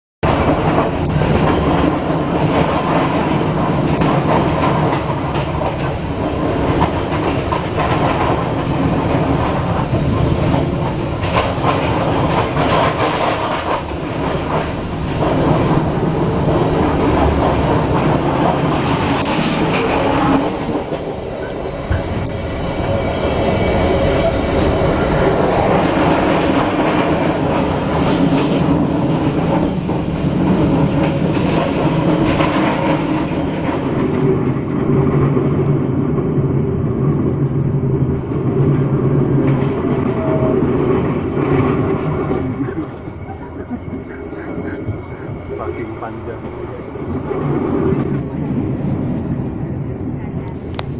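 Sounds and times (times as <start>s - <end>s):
clickety-clack over rail joints: 0.2s - 35.7s, 38.6s - 46.6s
train wheels rumbling on rail: 0.2s - 50.9s.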